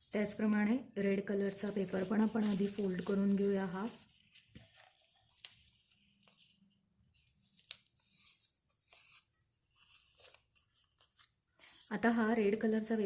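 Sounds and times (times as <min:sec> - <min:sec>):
paper being folded and creased: 0:01.4 - 0:11.9.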